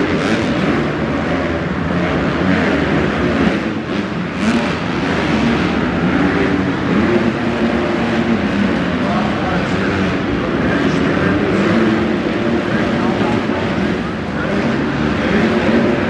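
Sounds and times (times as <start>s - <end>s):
dirt bikes revving: 0.0s - 16.0s.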